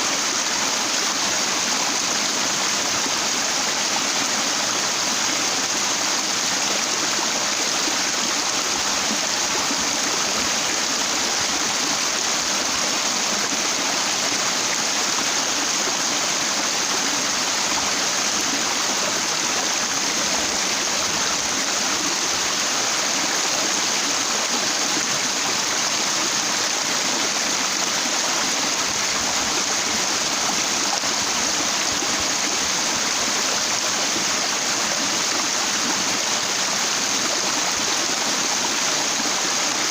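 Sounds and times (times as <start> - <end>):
stream water flowing over rock: 0.0 - 39.9.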